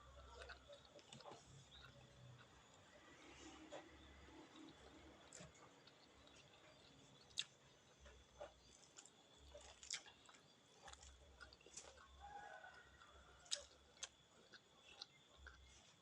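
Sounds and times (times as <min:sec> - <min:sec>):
chewing food: 0:00.0 - 0:16.0.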